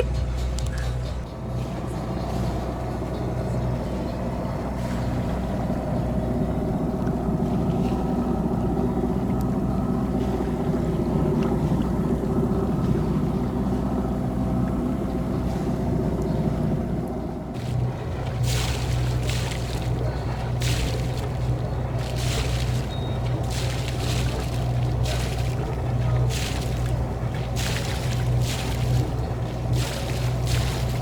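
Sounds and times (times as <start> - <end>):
boat engine droning: 0.0 - 31.0
rushing water: 0.0 - 31.0.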